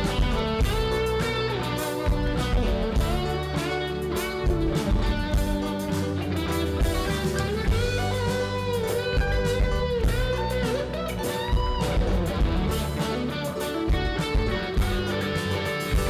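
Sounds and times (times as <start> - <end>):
bass and drums: 0.0 - 16.0
electric guitar lead: 0.0 - 16.0.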